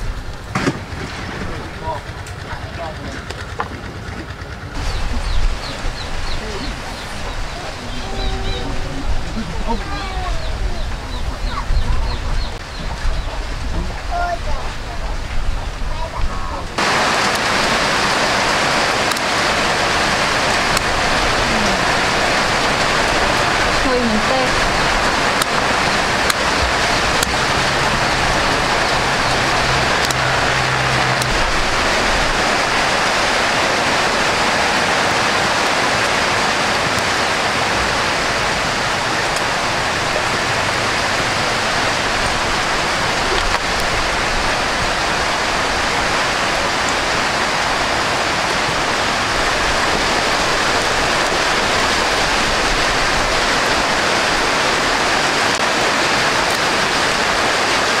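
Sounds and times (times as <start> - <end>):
rushing water noise: 0.0 - 58.0.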